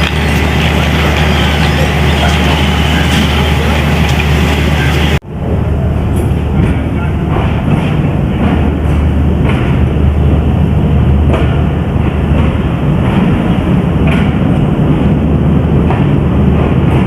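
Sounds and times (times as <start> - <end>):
wheels clicking on rails: 0.0 - 5.2, 6.1 - 17.0
train rumbling on track: 0.0 - 17.0.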